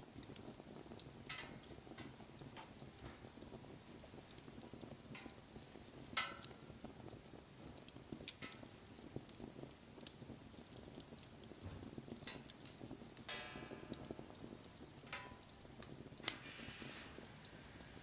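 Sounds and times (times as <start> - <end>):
faint hiss: 0.0 - 18.0
wood bonfire crackling: 0.0 - 18.0.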